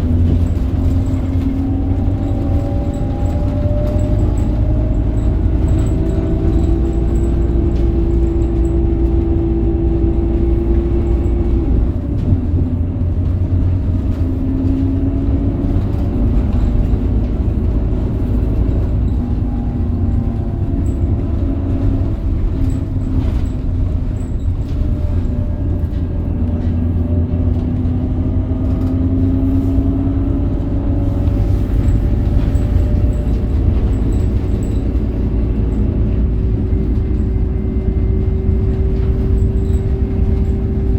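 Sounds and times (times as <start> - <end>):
bus diesel engine rumble: 0.0 - 40.9.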